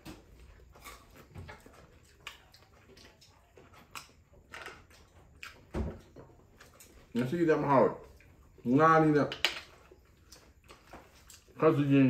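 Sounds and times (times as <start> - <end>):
chewing and mouth smacks: 0.0 - 7.2, 8.0 - 8.6, 9.6 - 11.6.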